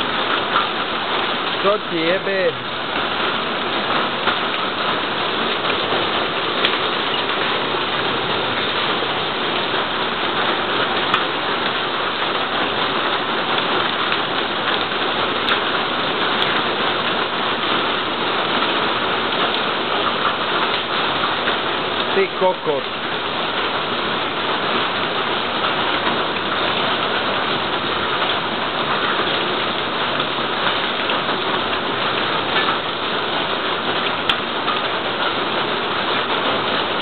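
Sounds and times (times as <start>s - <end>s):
heavy rain hitting paving: 0.0s - 37.0s.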